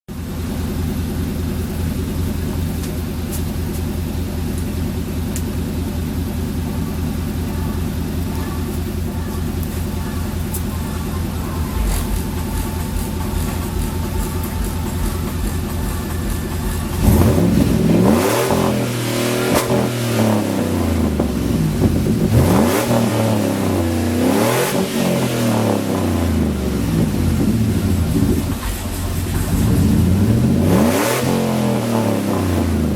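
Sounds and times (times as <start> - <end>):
engine idling and revving: 0.1 - 32.9.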